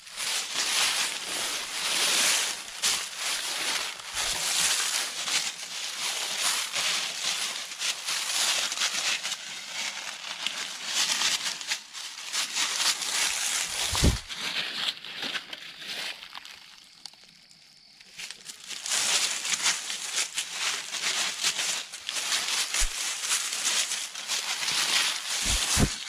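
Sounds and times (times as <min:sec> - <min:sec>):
hooves rustling through dry leaves: 0:00.0 - 0:16.9, 0:18.0 - 0:26.0.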